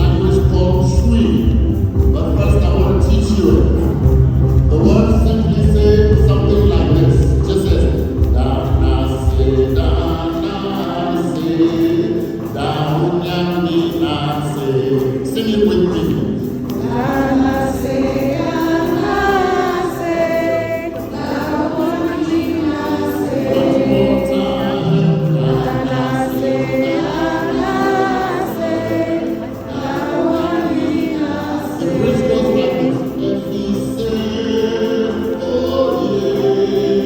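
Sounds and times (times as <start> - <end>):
gospel choir singing: 0.0 - 37.0.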